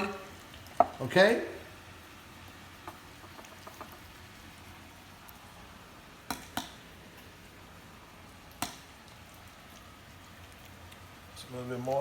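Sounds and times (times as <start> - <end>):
food sizzling in a pan: 0.0 - 11.4.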